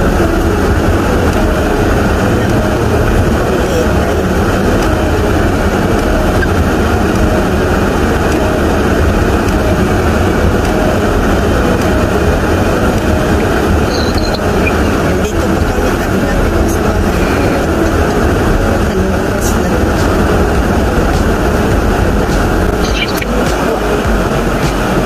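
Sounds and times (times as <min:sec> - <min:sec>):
car engine from inside: 0:00.0 - 0:25.0.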